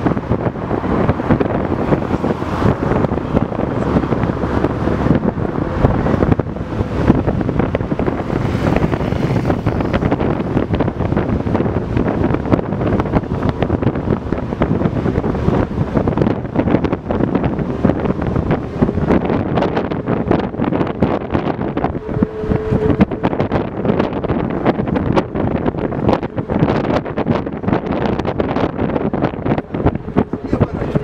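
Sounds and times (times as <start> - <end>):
bus engine running: 0.0 - 31.0
road noise: 0.0 - 31.0
wind buffeting microphone: 0.0 - 31.0.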